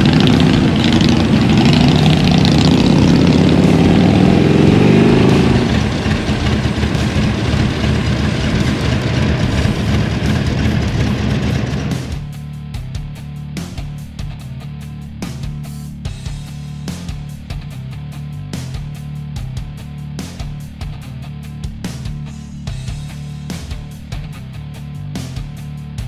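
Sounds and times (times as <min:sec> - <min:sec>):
motorcycle engine accelerating: 0:00.0 - 0:25.6.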